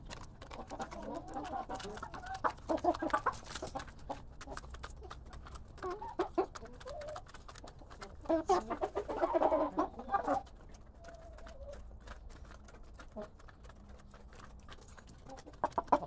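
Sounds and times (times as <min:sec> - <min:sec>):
beaks tapping on ground: 0:00.0 - 0:16.0
chickens clucking: 0:00.0 - 0:16.0.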